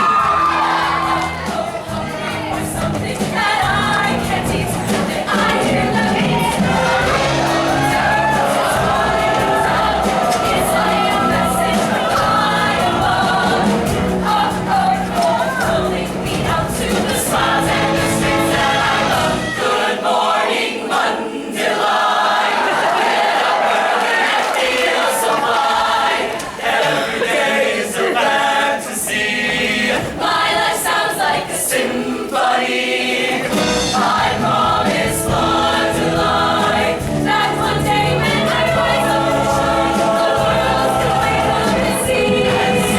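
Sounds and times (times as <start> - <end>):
musical accompaniment: 0.0 - 27.7, 32.1 - 42.9
choir singing: 0.0 - 42.9.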